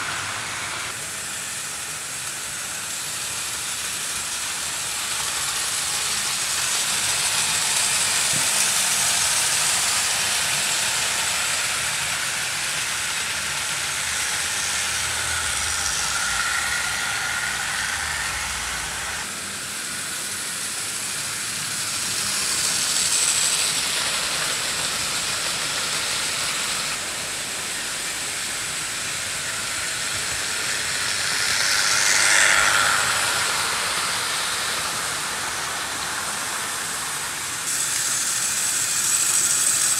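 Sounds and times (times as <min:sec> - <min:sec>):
model trains whirring: 0:00.0 - 0:39.9.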